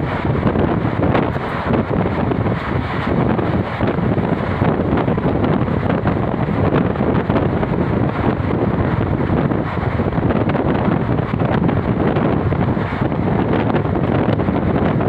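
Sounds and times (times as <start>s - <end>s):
vehicle travel rumble: 0.0s - 15.0s
wind buffeting microphone: 0.0s - 15.0s.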